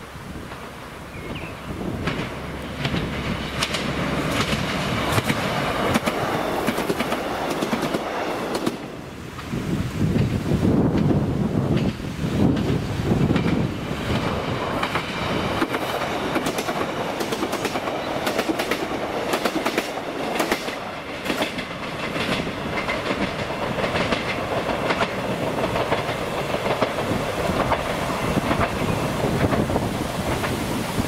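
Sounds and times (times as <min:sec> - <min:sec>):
train rumble: 0:00.0 - 0:31.0
train wheels clickety-clack: 0:01.8 - 0:31.0.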